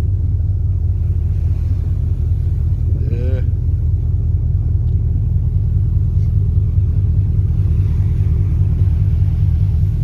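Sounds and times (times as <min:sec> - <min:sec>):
ship engines humming: 0:00.0 - 0:10.0.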